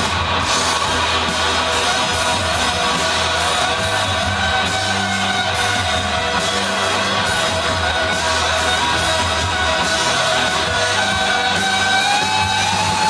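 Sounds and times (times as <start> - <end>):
bass guitar: 0.0 - 13.0
drums with cymbal hits: 0.0 - 13.0
electric guitars: 0.0 - 13.0.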